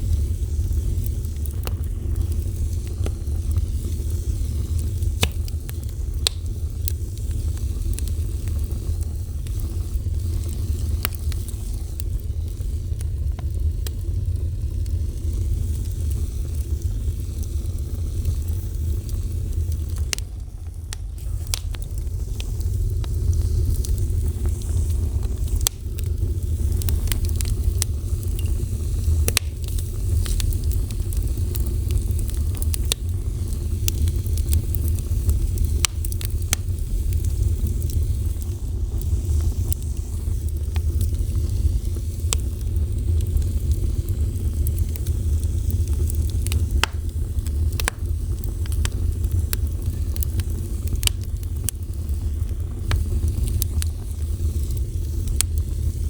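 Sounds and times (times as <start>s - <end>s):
fire crackling and popping: 0.0s - 56.0s
fire low rumble: 0.0s - 56.0s.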